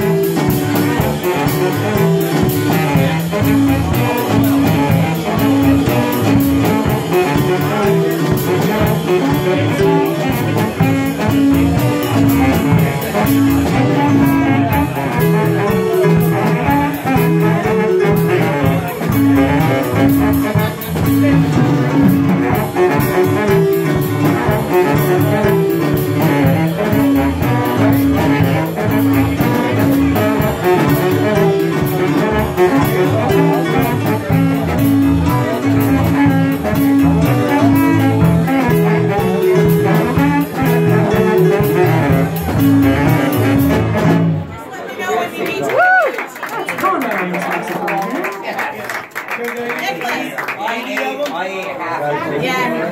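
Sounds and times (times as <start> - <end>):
bass guitar: 0.0 - 44.6
drums: 0.0 - 44.6
saxophone: 0.0 - 44.7
keyboard: 0.0 - 44.8.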